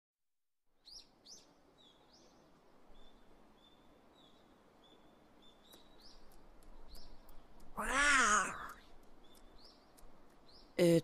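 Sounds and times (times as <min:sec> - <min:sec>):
small birds chirping: 0:00.7 - 0:11.0.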